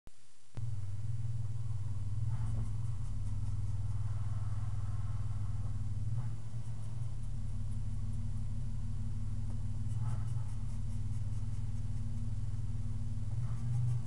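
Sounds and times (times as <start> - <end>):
faint whine: 0.1 - 14.0
engine idling: 0.6 - 14.0.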